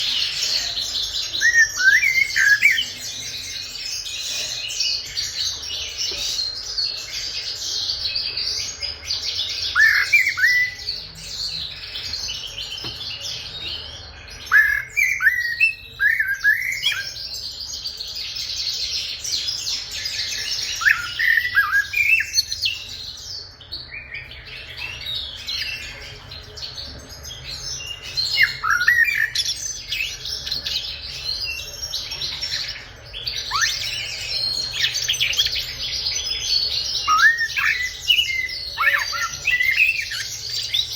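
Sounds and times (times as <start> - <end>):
blackbird singing: 0.0 - 40.9
small birds twittering: 0.0 - 40.9.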